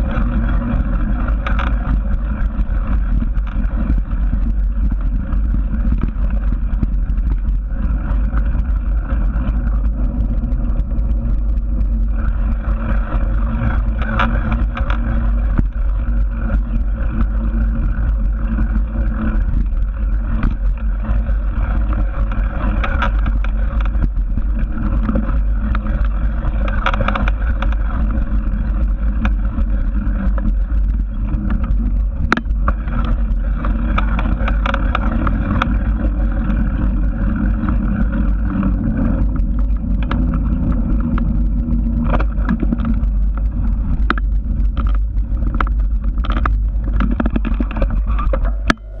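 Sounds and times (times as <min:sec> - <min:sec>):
wind rumble on microphone: 0:00.0 - 0:49.0.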